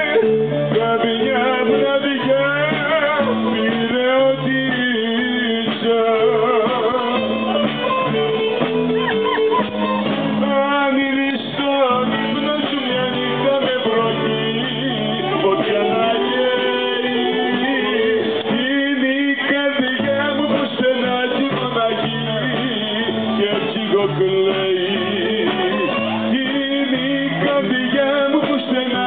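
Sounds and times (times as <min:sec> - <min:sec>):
man singing into microphone: 0:00.0 - 0:07.7, 0:10.3 - 0:29.0
strummed acoustic guitar: 0:00.0 - 0:29.0.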